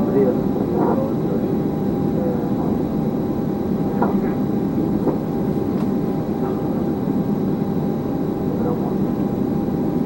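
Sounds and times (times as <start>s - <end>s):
aircraft engine and airflow rumble: 0.0s - 10.0s.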